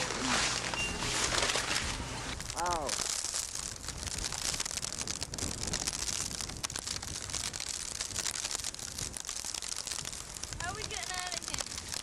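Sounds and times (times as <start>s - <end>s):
wind rumbling on microphone: 0.0s - 12.0s
sleet ticking and hissing: 2.3s - 12.0s.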